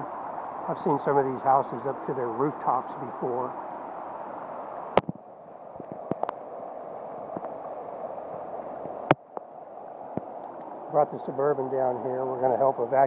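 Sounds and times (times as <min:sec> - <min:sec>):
floodwater running: 0:00.0 - 0:13.0.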